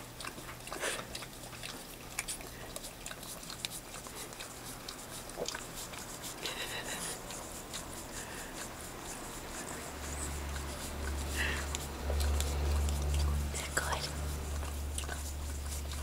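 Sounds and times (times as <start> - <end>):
dog licking wetly: 0.0 - 16.0.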